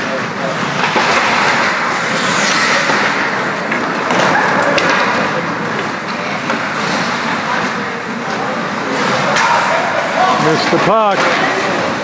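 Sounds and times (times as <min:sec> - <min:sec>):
hockey sticks hitting puck: 0:00.0 - 0:12.0
skates scraping ice: 0:00.0 - 0:12.0
spectator chatter: 0:00.0 - 0:12.0.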